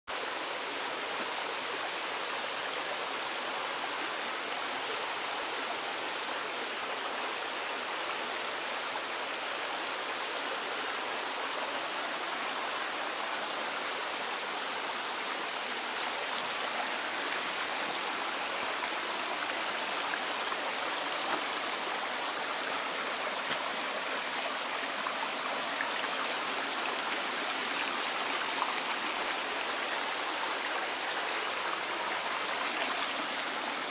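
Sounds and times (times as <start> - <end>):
stream running over rocks: 0.1 - 33.9.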